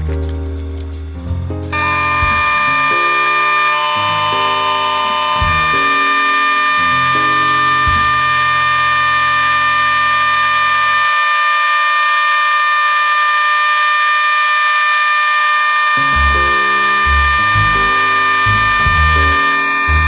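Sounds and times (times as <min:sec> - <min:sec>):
long held chord: 0:01.7 - 0:15.1, 0:15.7 - 0:20.0.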